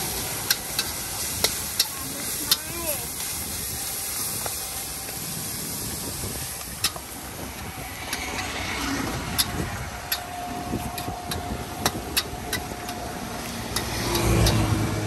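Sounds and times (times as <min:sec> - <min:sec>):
noodles sizzling in a wok: 0:00.0 - 0:15.0
vehicle engine hum: 0:00.0 - 0:15.0.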